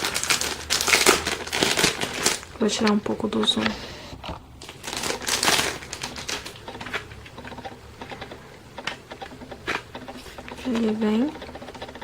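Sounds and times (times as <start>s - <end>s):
packaging rustle: 0.0s - 2.9s, 4.6s - 12.0s.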